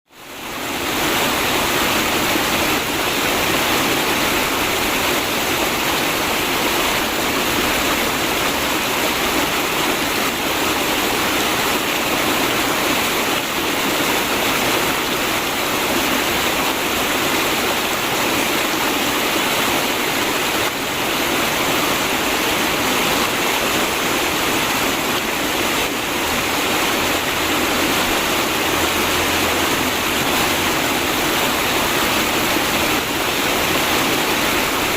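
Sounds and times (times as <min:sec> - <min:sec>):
river water gurgling: 0:00.1 - 0:34.9.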